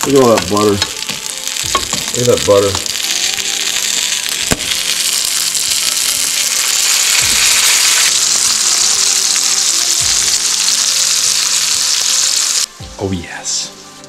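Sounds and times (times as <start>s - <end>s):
fish frying in butter: 0.0s - 12.7s.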